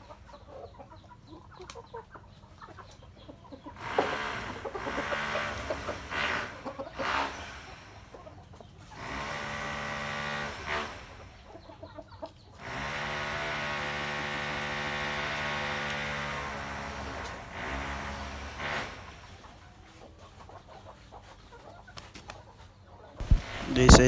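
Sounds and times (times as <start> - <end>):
roosters clucking: 0.0 - 24.0.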